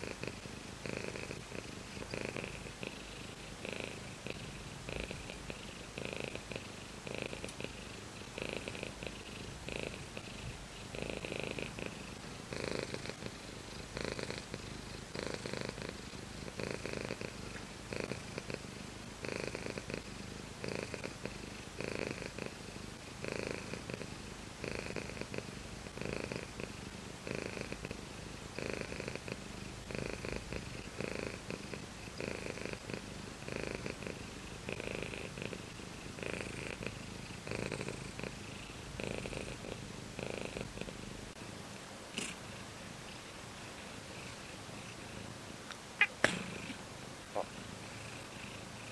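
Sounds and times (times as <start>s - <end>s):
cat purring: 0.0s - 48.9s.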